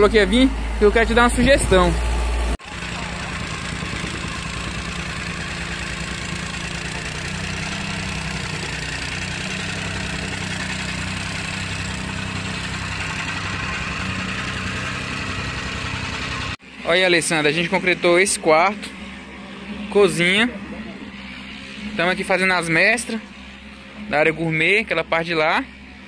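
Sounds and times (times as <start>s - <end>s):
tamping rammer pounding dirt: 0.0s - 25.0s
engine running: 0.0s - 26.0s.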